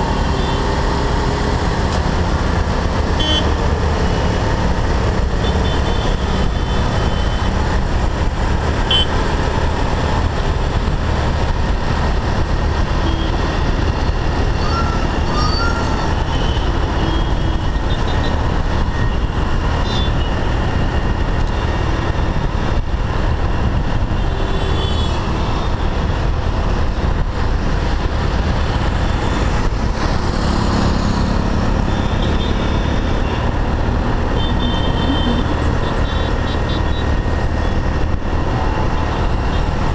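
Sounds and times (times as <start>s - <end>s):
wind rush on microphone: 6.2s - 39.9s.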